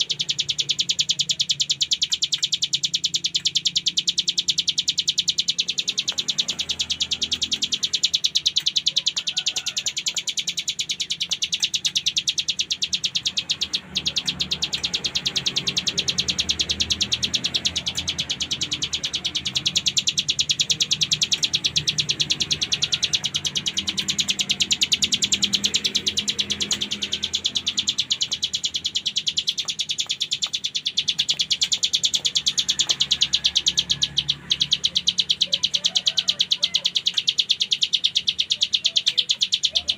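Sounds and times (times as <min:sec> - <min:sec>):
bird singing buzzy trill: 0:00.0 - 0:39.9.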